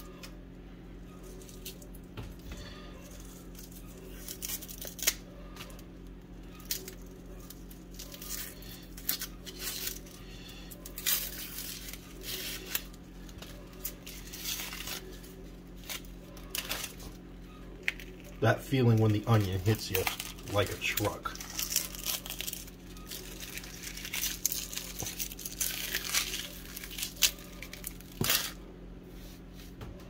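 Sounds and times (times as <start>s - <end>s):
steady low hum: 0.0s - 30.0s
onion skin crackling and tearing: 1.2s - 28.6s.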